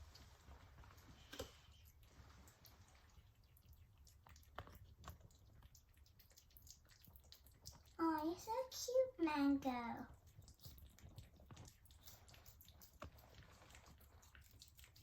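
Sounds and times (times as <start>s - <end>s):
faint chewing of crunchy treats: 0.0s - 8.9s, 9.5s - 15.0s.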